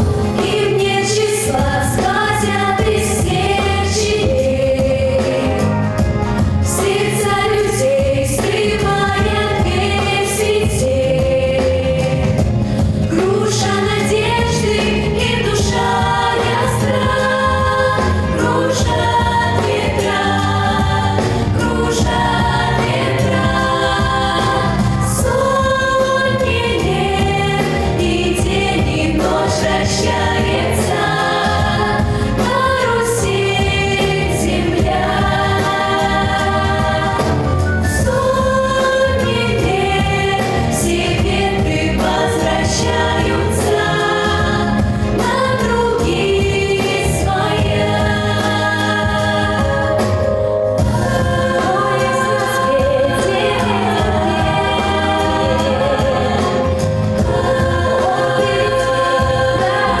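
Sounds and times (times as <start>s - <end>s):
instrumental accompaniment with beat: 0.0s - 60.0s
young singers singing together: 0.0s - 60.0s.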